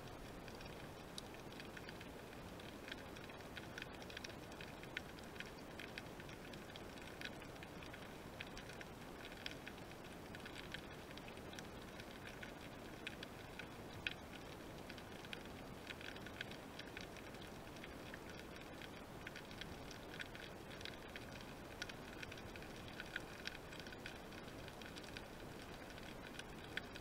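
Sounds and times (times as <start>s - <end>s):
crackling underwater clicks: 0.0s - 27.0s
faint steady hiss: 0.0s - 27.0s.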